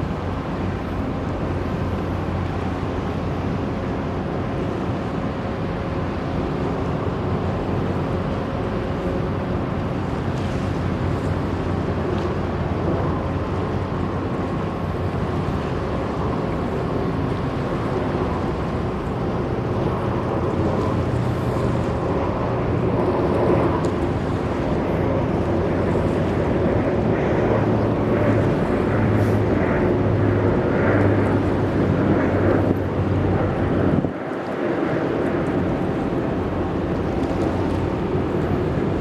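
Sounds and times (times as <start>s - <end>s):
ship engine drone: 0.0s - 39.0s
wind on microphone: 0.0s - 39.0s.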